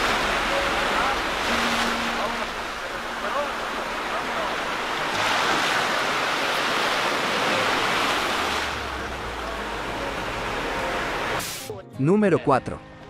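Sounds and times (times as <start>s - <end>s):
waves breaking on a beach: 0.0s - 11.4s.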